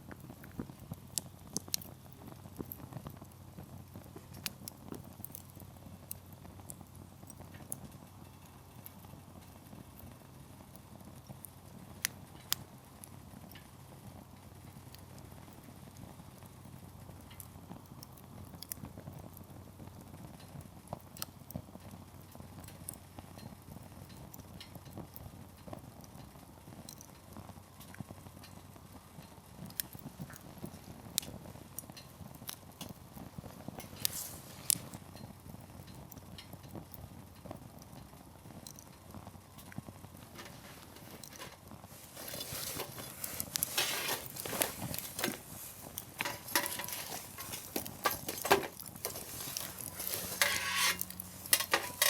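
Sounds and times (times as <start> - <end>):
fire crackling and popping: 0.0 - 52.0
rush of campfire flame: 0.0 - 52.0.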